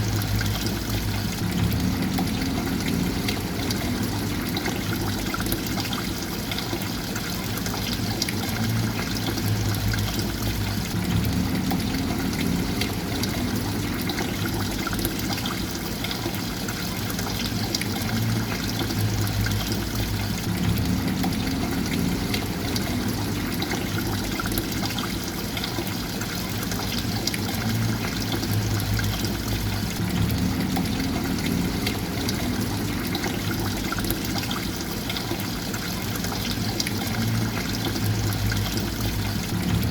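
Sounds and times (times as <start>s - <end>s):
low water burbling: 0.0s - 39.9s
water running and trickling: 0.0s - 39.9s.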